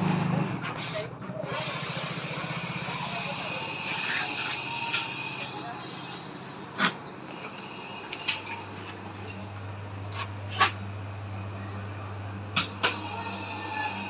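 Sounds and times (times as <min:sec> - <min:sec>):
freezer refrigeration unit humming: 0:01.2 - 0:14.0.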